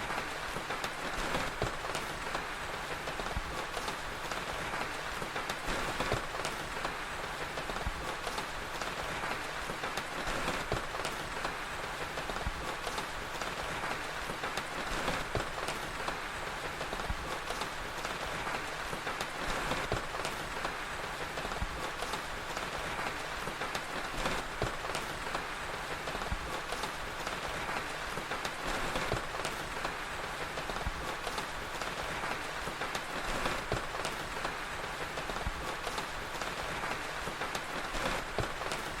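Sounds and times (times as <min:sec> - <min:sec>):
fire crackling: 0:00.0 - 0:39.0
steady rain: 0:00.0 - 0:39.0.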